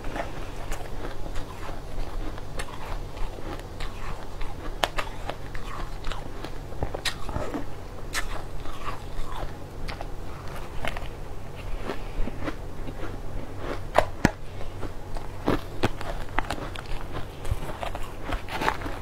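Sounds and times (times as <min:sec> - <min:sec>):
crunching and chewing ice: 0:00.0 - 0:19.0
low hum: 0:00.0 - 0:19.0.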